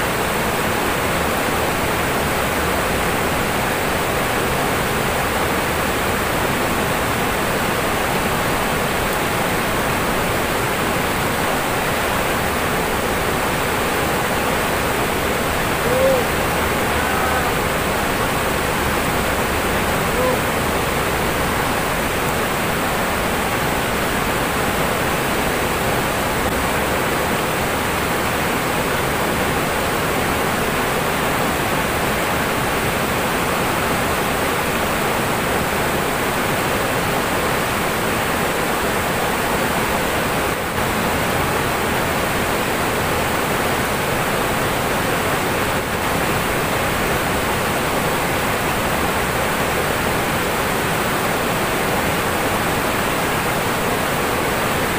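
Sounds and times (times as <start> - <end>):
water rushing over rocks: 0.0 - 54.9.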